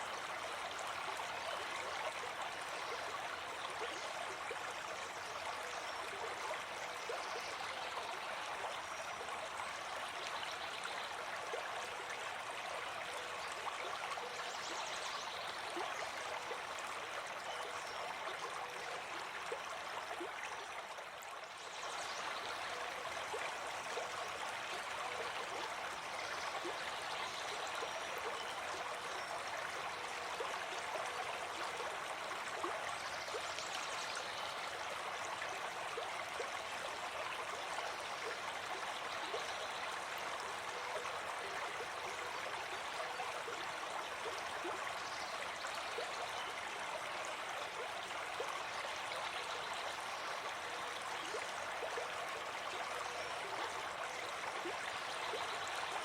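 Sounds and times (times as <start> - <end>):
stream trickling and splashing: 0.0 - 56.0.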